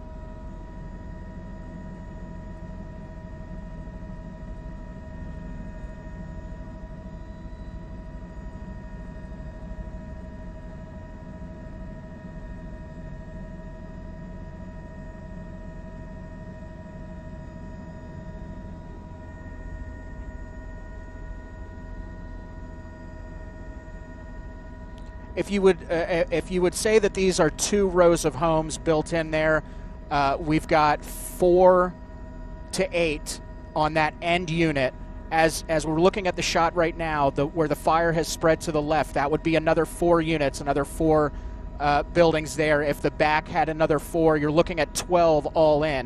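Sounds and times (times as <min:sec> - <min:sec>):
helicopter drone: 0:00.0 - 0:46.0.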